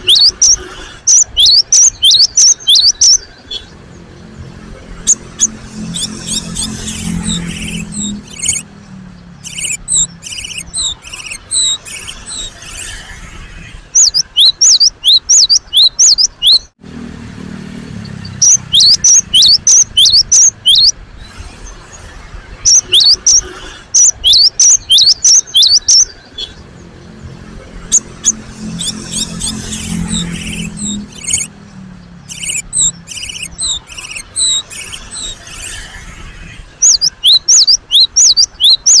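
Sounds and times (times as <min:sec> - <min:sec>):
bird buzzy chattering calls: 0:00.0 - 0:13.2, 0:13.9 - 0:16.7, 0:18.0 - 0:21.0, 0:22.6 - 0:26.6, 0:27.8 - 0:31.6, 0:32.2 - 0:36.0, 0:36.6 - 0:39.0.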